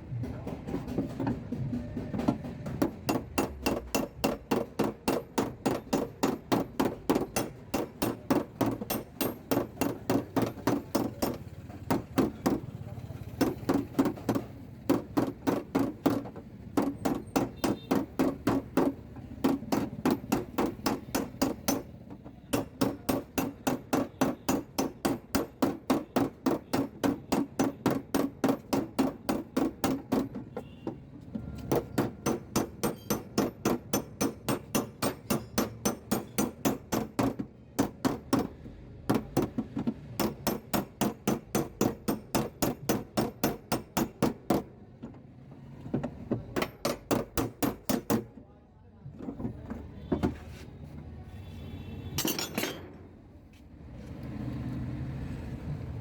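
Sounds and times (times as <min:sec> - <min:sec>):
hammer tapping on sheet metal: 0:00.1 - 0:45.2, 0:45.9 - 0:48.4.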